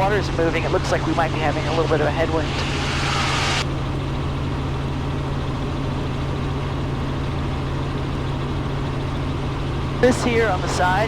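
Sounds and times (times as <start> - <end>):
helicopter engine and rotors drone: 0.0 - 11.0.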